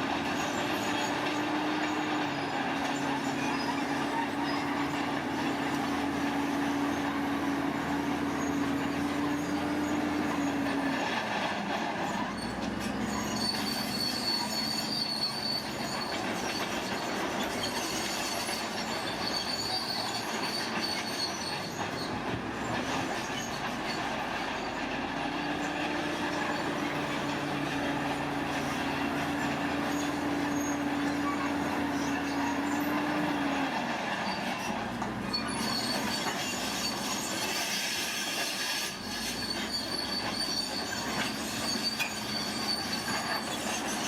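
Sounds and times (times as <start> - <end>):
earthmoving machinery engine rumble: 0.0 - 20.7, 21.4 - 37.5
high-pitched metallic squeals: 0.1 - 44.0.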